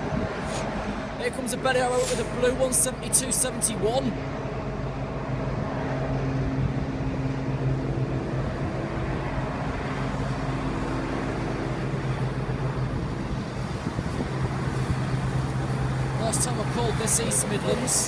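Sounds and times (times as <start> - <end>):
diesel train engine humming: 0.0 - 18.0.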